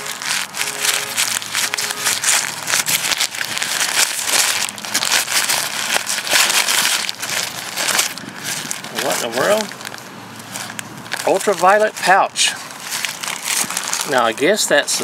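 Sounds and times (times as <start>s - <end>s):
fabric pouch handled: 0.0s - 15.0s
plastic packaging crinkling: 0.0s - 15.0s.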